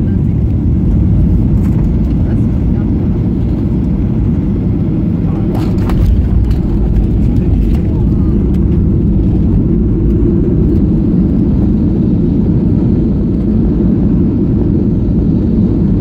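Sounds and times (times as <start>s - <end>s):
airliner engines and wheels rumbling: 0.0s - 16.0s.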